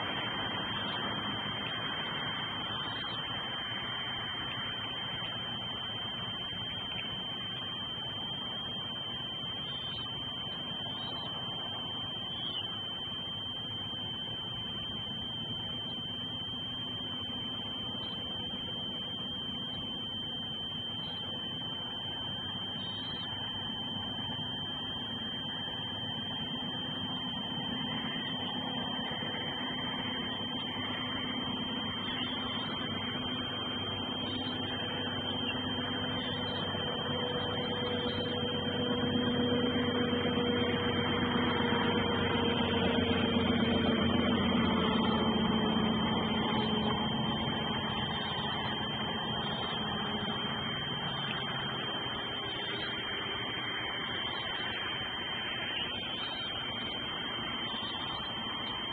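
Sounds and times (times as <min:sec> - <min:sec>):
high electronic whine: 0:00.0 - 0:58.9
low hum: 0:00.0 - 0:58.9.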